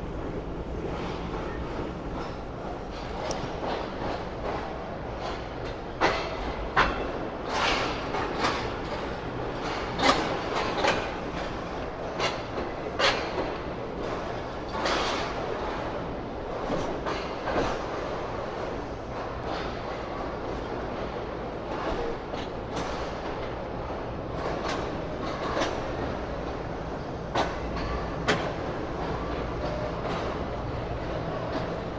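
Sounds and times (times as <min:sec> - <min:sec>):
train rumbling on rails: 0:00.0 - 0:31.9.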